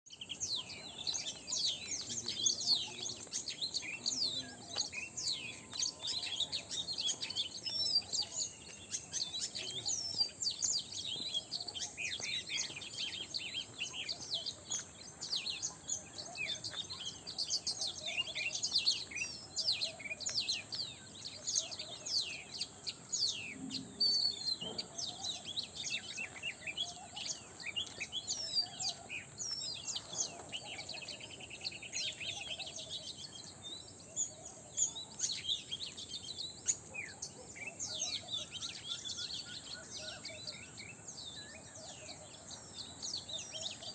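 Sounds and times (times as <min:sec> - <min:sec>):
small birds chirping: 0:00.1 - 0:43.9.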